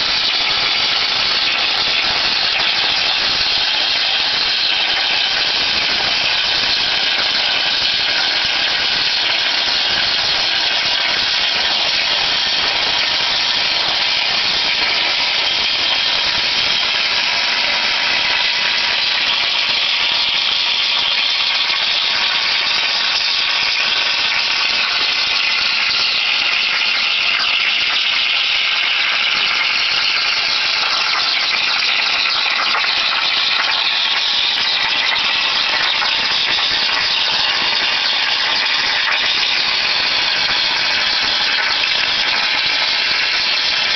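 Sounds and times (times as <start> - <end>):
plasma torch hissing: 0.0 - 43.9.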